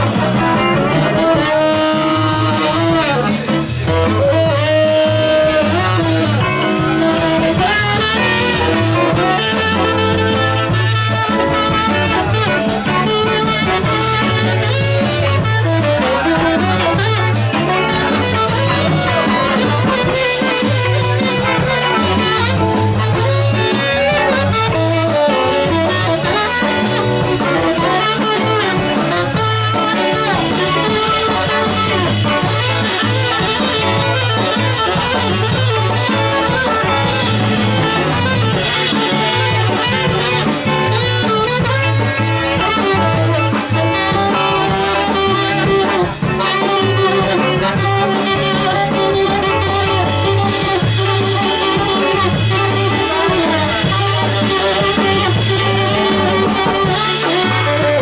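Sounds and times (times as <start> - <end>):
drum kit: 0.0 - 58.0
electric bass: 0.0 - 58.0
electric guitar: 0.0 - 58.0
tenor saxophone lead: 0.0 - 58.0.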